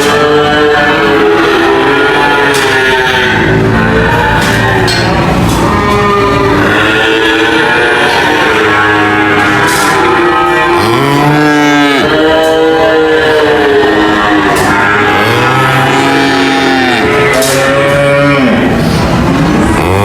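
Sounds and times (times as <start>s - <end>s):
cows mooing: 0.0s - 20.0s.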